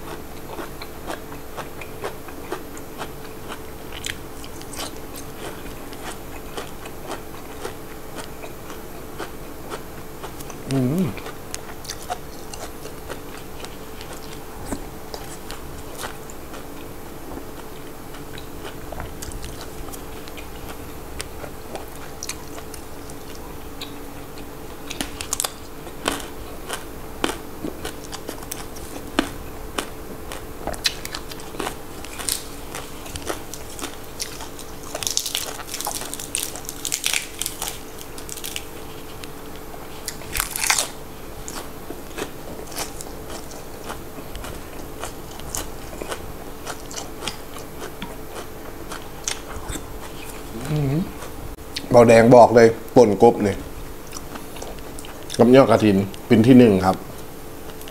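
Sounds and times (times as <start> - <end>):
person crunching raw vegetables: 0.0 - 53.4.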